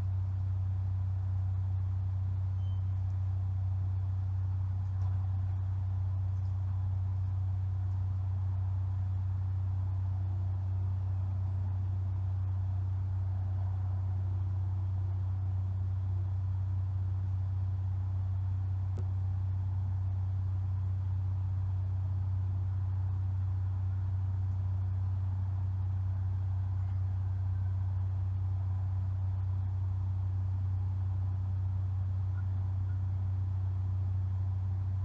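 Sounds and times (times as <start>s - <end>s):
low-pitched hum: 0.0s - 35.0s.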